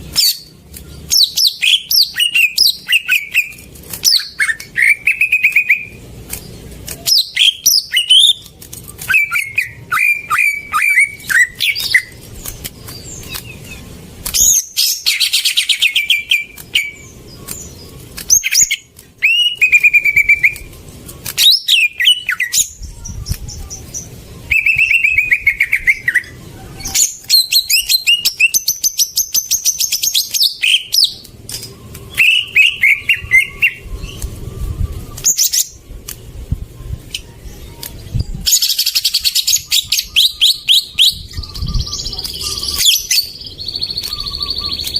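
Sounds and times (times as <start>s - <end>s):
bird singing chirps and trills: 0.0s - 44.9s.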